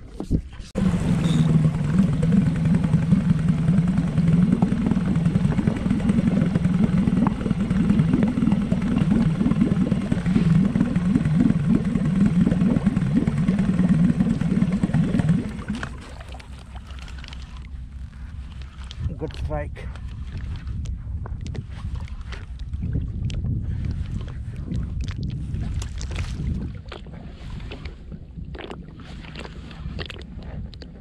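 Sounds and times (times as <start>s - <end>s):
outboard motor running: 0.7s - 31.0s.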